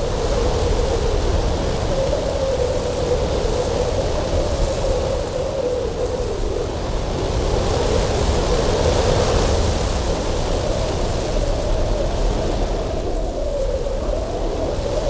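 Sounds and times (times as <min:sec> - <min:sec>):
deep wind rumble: 0:00.0 - 0:15.0.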